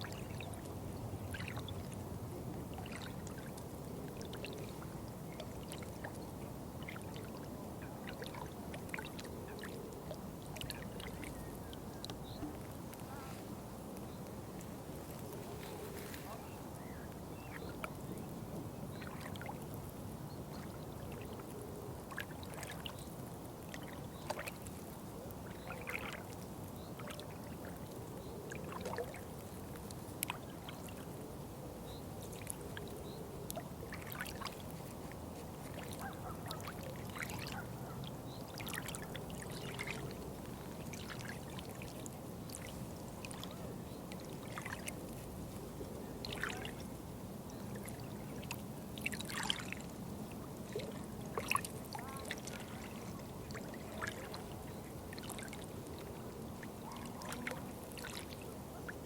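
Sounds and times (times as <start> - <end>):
water trickling and bubbling: 0.0 - 13.0, 16.8 - 31.2, 31.9 - 59.0.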